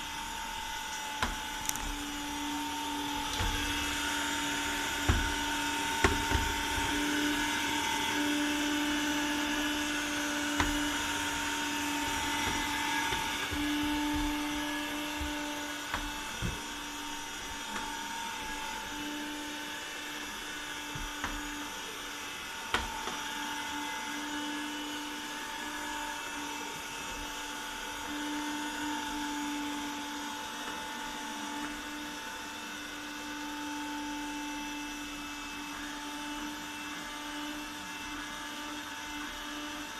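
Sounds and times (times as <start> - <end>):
window cleaning robot motor whine: 0.0 - 39.9.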